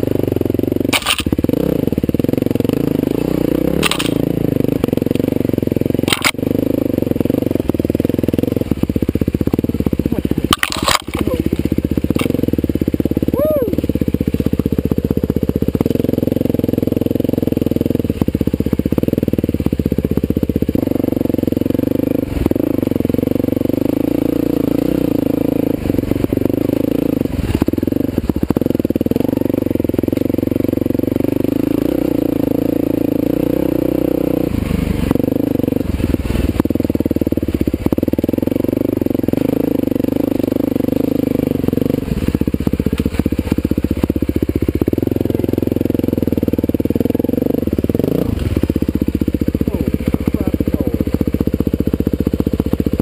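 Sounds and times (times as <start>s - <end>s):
dirt bike engine running: 0.0s - 53.0s.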